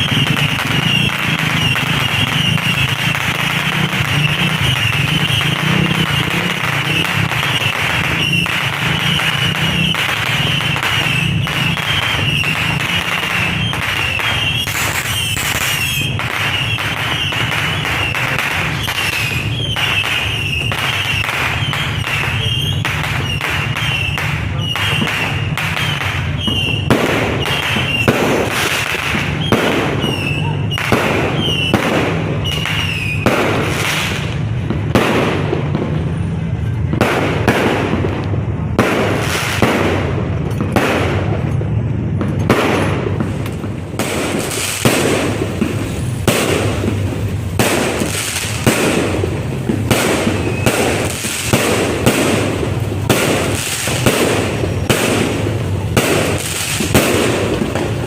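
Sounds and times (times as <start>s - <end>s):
falling firework whistles: 0.0s - 36.3s, 42.5s - 58.0s
fireworks bangs and crackles: 0.0s - 58.0s.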